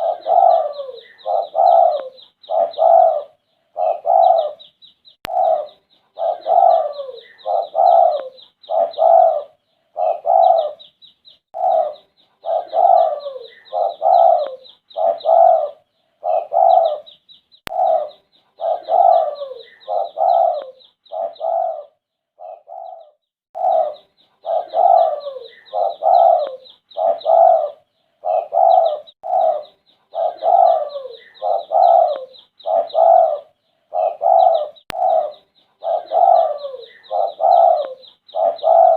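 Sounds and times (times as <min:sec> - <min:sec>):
dove cooing: 0:00.0 - 0:04.7, 0:05.3 - 0:10.9, 0:11.5 - 0:38.9.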